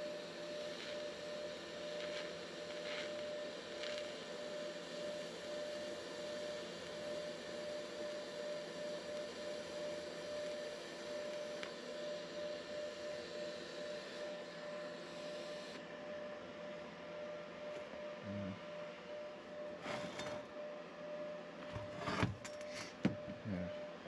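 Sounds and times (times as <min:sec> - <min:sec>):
welder arc humming and hissing: 0:00.0 - 0:24.0.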